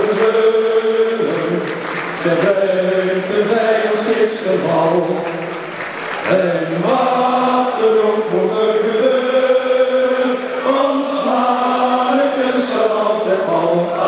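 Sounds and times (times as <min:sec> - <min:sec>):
stadium crowd singing: 0:00.0 - 0:14.0.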